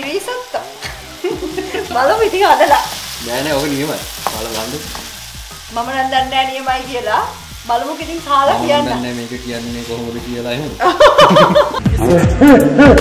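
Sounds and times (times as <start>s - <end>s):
rice sizzling in a frying pan: 0.0s - 11.8s.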